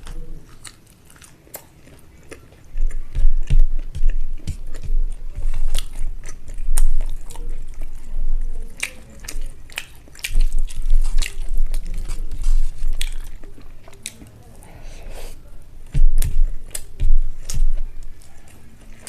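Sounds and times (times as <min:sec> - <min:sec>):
close chewing with lip smacks: 0:00.0 - 0:14.6, 0:15.8 - 0:19.0.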